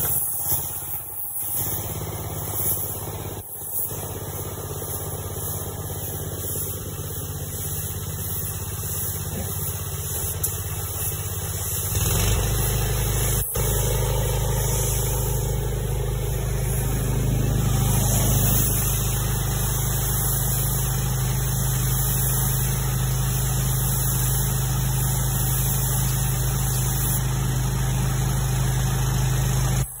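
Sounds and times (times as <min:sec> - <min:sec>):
engine-like machine hum: 0:00.0 - 0:30.0
hiss: 0:00.0 - 0:30.0.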